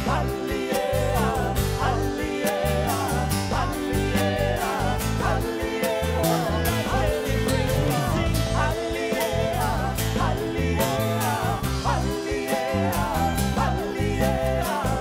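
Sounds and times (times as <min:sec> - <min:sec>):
drum kit: 0:00.0 - 0:15.0
electric bass: 0:00.0 - 0:15.0
man singing: 0:00.0 - 0:15.0.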